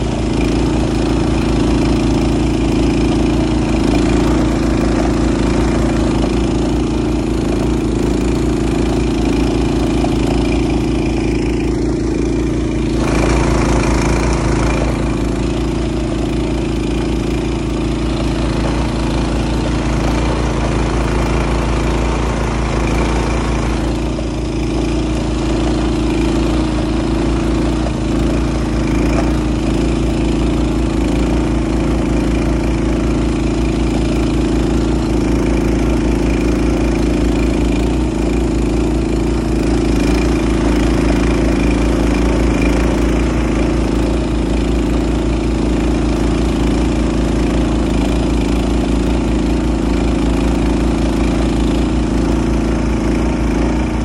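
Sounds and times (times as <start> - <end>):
rush of blown snow: 0.0 - 54.0
snowblower engine running: 0.0 - 54.0.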